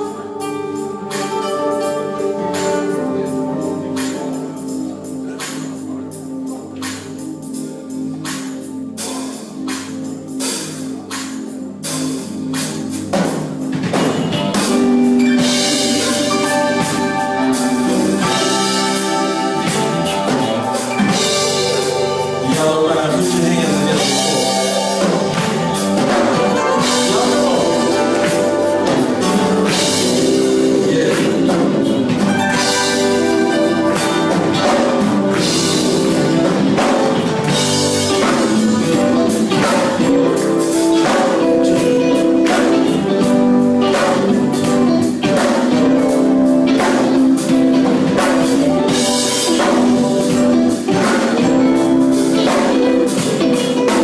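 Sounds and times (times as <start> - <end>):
live band music: 0.0 - 54.0.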